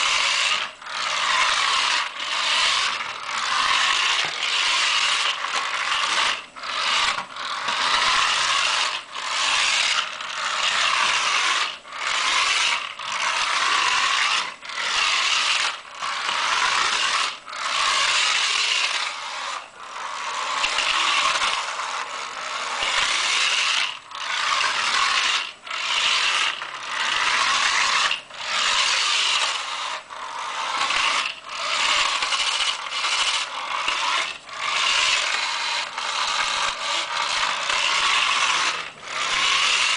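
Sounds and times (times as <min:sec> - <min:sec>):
toy car motor and gears whirring: 0:00.0 - 0:39.9.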